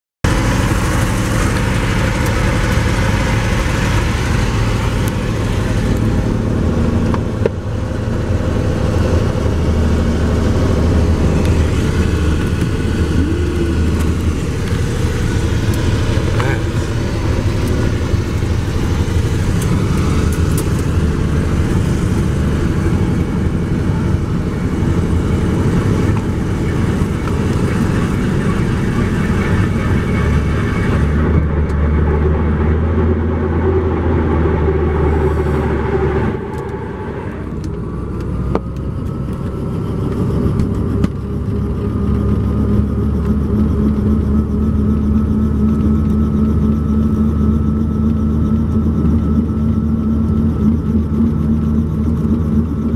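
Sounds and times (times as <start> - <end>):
helicopter engine and rotor running: 0.2 - 52.9.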